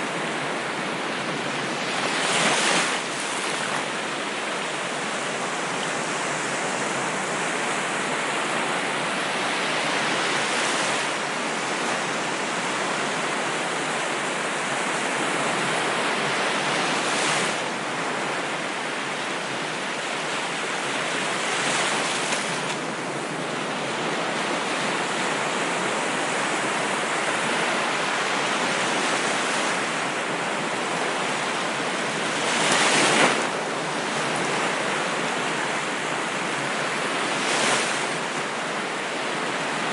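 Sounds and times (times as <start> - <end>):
ocean waves washing: 0.0 - 39.9
waves breaking: 0.0 - 39.9.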